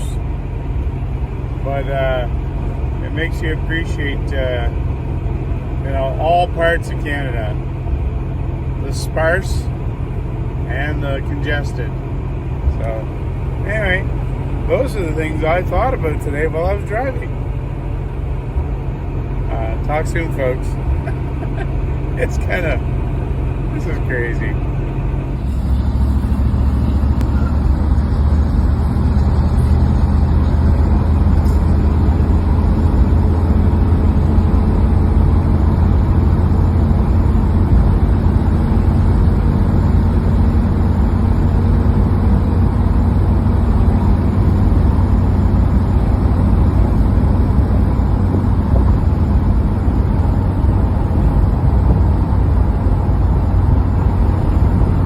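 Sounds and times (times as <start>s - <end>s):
tyre and road noise: 0.0s - 55.0s
vehicle engine drone: 0.0s - 55.0s.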